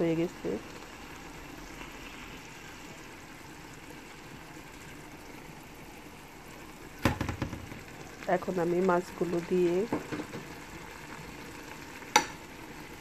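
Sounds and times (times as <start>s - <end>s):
pot simmering hiss: 0.0s - 13.0s.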